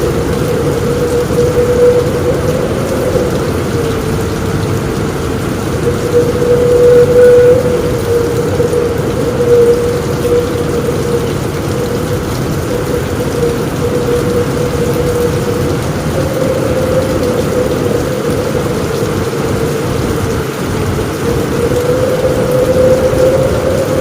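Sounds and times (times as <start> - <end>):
heavy rain on a roof: 0.0 - 24.0.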